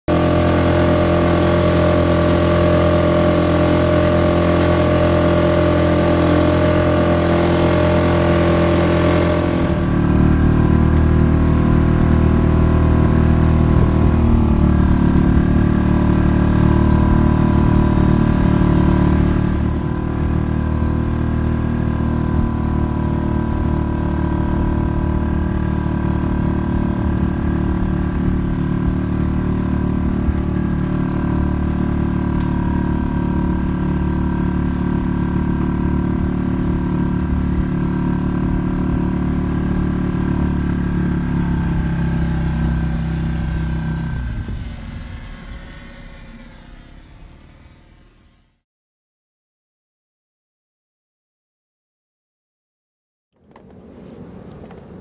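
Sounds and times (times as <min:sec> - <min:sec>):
outboard motor running: 0:00.1 - 0:48.6.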